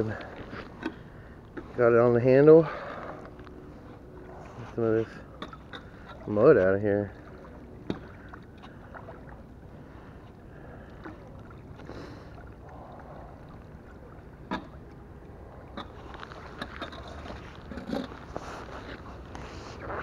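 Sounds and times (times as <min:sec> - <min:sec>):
water sloshing and lapping: 0:00.0 - 0:20.0.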